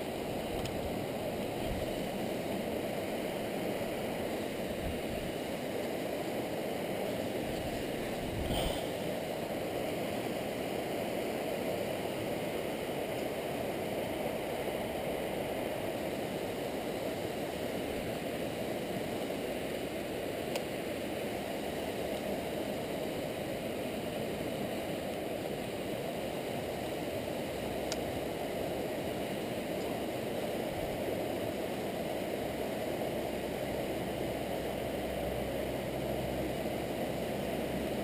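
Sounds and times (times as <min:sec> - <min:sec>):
river water rushing over rocks: 0:00.0 - 0:38.0.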